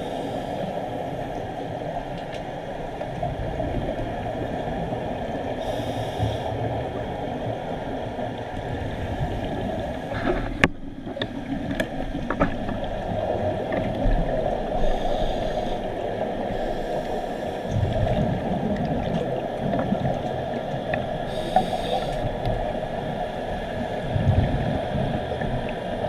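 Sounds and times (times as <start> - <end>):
muffled underwater rushing: 0.0 - 26.0.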